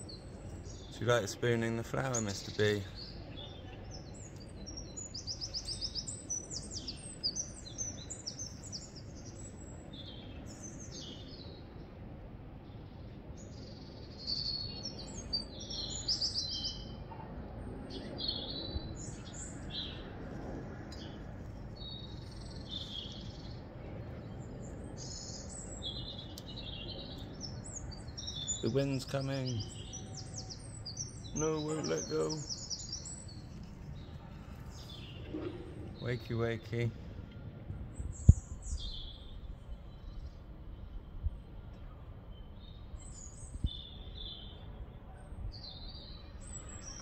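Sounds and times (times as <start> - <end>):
low background noise: 0.0 - 47.0
small birds chirping and singing: 0.0 - 47.0.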